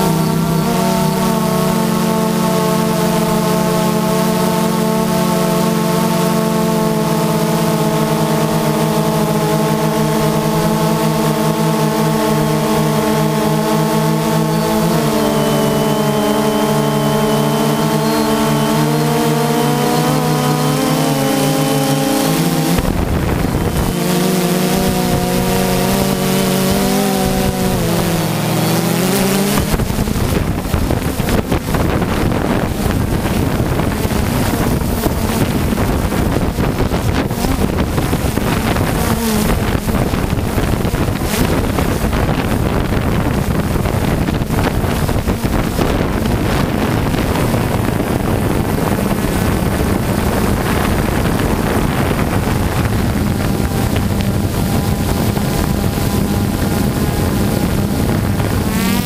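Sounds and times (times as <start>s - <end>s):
drone propellers buzzing: 0.0s - 59.0s
wind on microphone: 0.0s - 59.0s.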